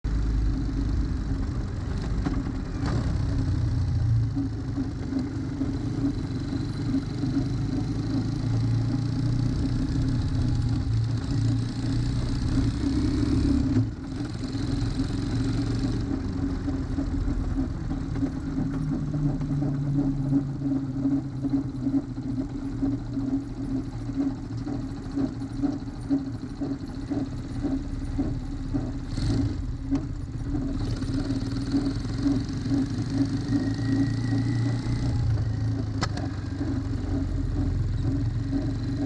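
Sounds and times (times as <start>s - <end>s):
vehicle rolling at low speed: 0.0s - 39.0s
pulsing rotating drone: 0.1s - 39.0s.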